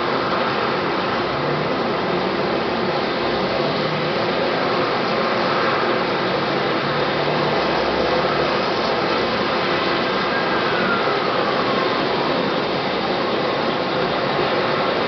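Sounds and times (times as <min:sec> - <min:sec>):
faint high turbine whine: 0:00.0 - 0:15.0.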